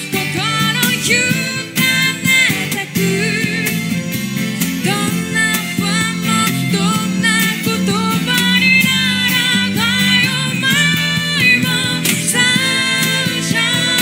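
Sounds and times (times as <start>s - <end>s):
woman singing: 0.0s - 4.0s, 4.7s - 14.0s
strummed acoustic guitars: 0.0s - 14.0s.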